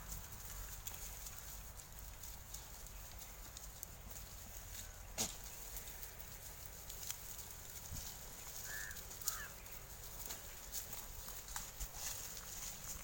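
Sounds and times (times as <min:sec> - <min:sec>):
faint farmyard ambience: 0:00.0 - 0:13.0.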